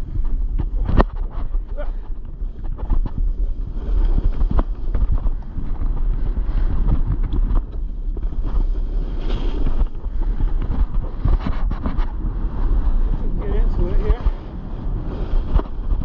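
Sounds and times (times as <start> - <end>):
wind buffeting microphone: 0.0 - 16.0
snowboard edge scraping snow: 0.3 - 16.0.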